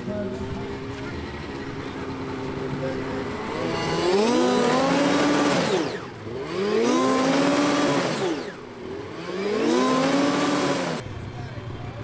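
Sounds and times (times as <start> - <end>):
snowmobile engines at high revs: 0.1 - 12.0.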